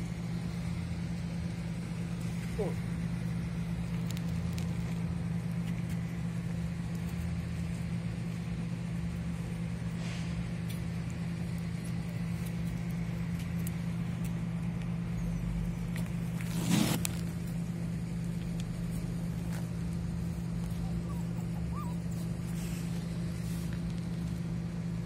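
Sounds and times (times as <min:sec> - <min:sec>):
faint clicks and rustles: 0:01.5 - 0:09.7, 0:10.6 - 0:15.0, 0:15.7 - 0:25.0.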